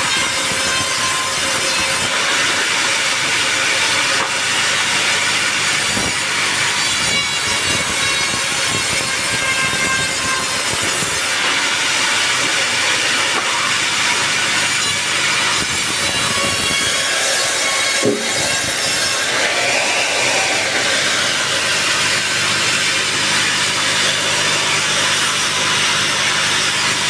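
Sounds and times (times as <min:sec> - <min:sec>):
band saw cutting log: 0:00.0 - 0:27.0.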